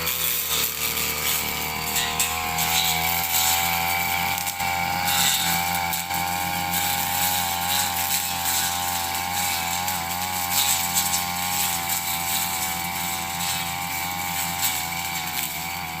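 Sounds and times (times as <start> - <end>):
small trimmer engine running: 0.0 - 16.0.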